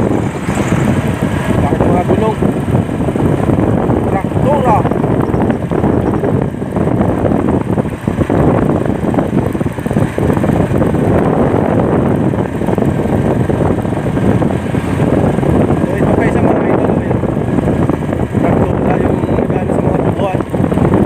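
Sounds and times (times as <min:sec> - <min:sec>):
vehicle running: 0:00.0 - 0:21.0
wind rushing over microphone: 0:00.0 - 0:21.0.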